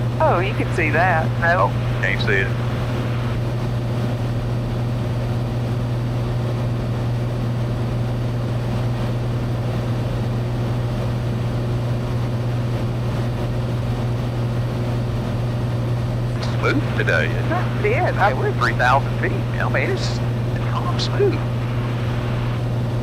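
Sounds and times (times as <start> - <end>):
aircraft engine and propeller drone: 0.0 - 23.0.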